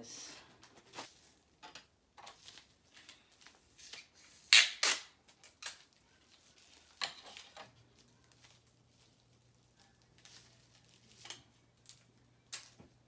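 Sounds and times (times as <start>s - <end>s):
bubble wrap crinkling: 0.6s - 1.6s, 2.2s - 13.0s.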